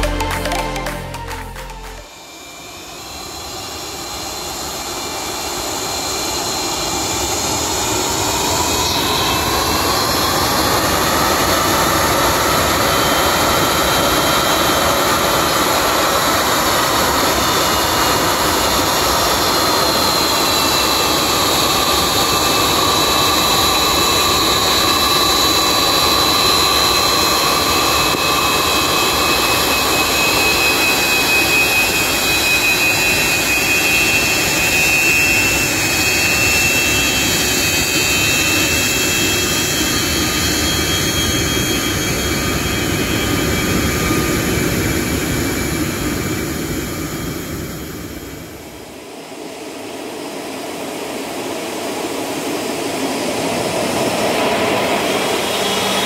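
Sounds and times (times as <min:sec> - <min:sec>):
jet engines taxiing: 0:00.0 - 0:56.0.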